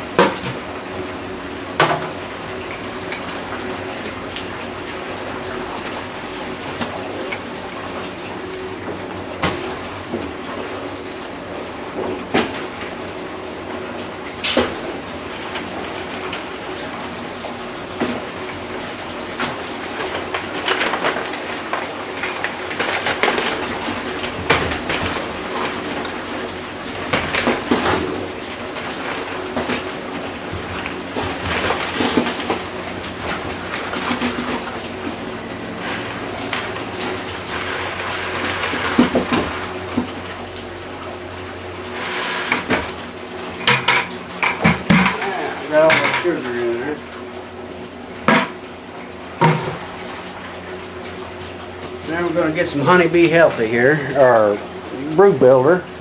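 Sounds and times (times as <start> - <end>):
water churning in a barrel: 0.0 - 56.0.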